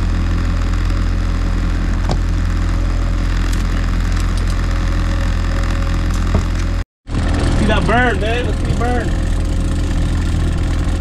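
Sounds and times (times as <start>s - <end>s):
outboard motor running steadily: 0.0s - 11.0s.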